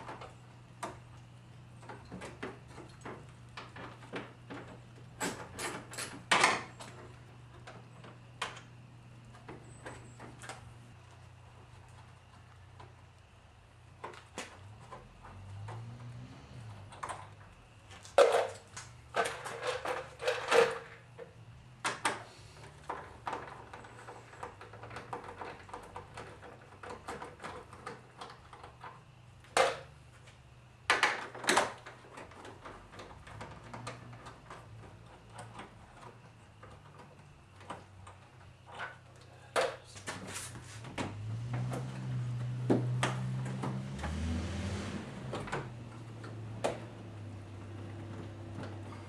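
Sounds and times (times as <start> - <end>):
tools and car parts clanking: 1.8 - 8.7, 14.0 - 30.0, 30.9 - 49.0.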